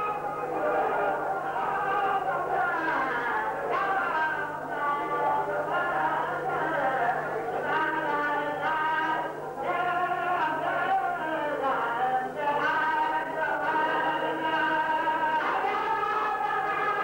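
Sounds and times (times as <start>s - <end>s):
choir singing unaccompanied: 0.0s - 17.0s.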